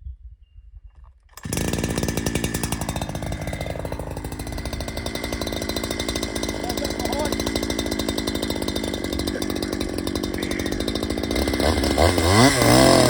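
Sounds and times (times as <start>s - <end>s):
chainsaw engine running: 1.4s - 13.0s.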